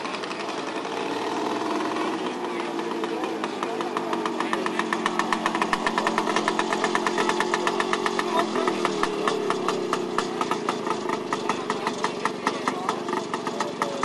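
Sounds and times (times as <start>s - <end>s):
scooter engine idling: 0.0s - 14.0s.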